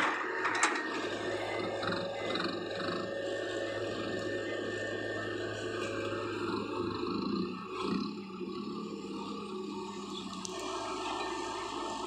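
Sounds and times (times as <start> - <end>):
excavator engine drone: 0.0 - 12.0.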